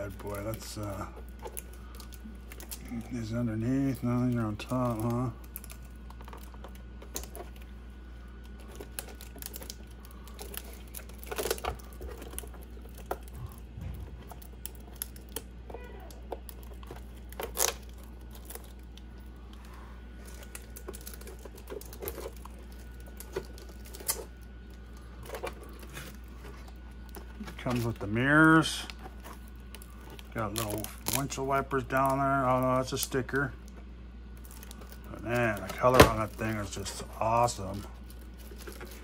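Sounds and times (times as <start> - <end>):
plastic wrapping crinkling: 0.0 - 39.0
steady low hum: 0.0 - 39.0.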